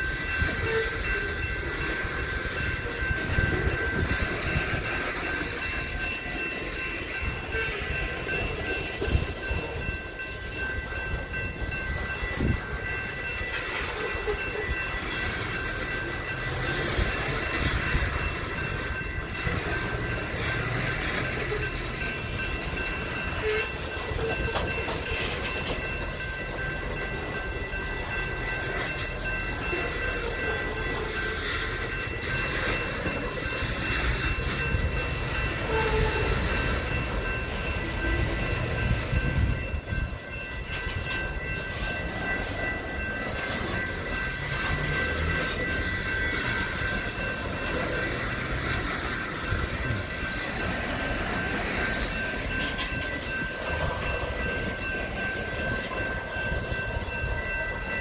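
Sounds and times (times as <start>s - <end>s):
high ringing tones: 0.0s - 58.0s
rail cars rumbling on track: 0.0s - 58.0s.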